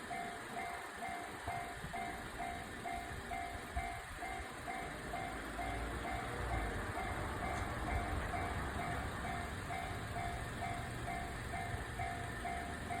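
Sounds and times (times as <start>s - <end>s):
level crossing warning bell: 0.0s - 13.0s
rumble of passing train: 0.0s - 13.0s.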